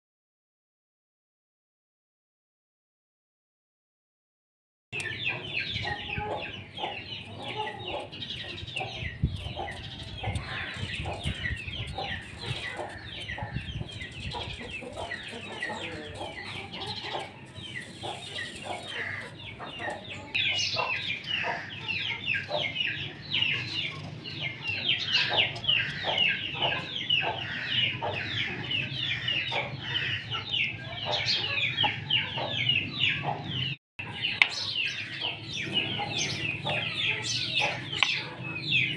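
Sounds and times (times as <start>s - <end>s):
chickens clucking: 5.0s - 38.9s
high chirping calls: 5.0s - 38.9s.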